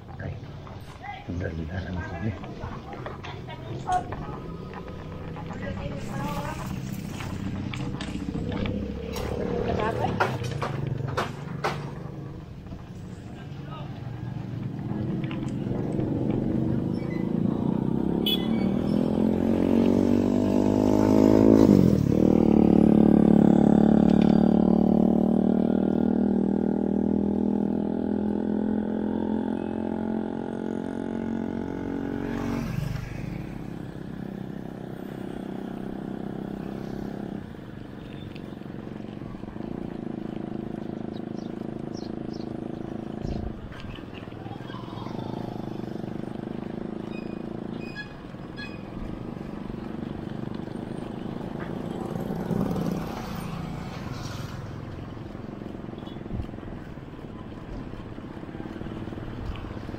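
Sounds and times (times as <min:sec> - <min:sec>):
vehicle engine accelerating: 0:00.0 - 0:59.9.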